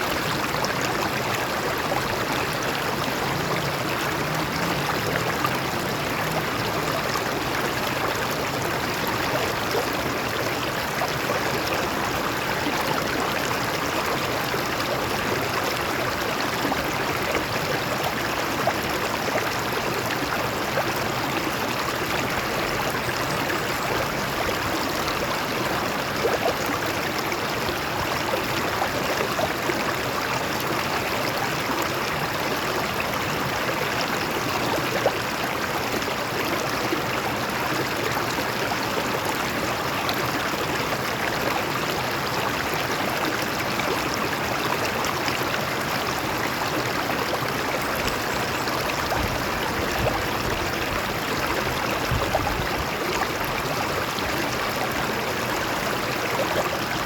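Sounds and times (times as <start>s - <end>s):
water running over rocks: 0.0s - 57.0s.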